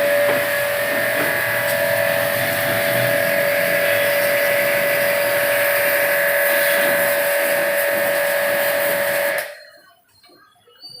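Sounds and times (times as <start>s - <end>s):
machine hissing and whining: 0.0s - 9.7s.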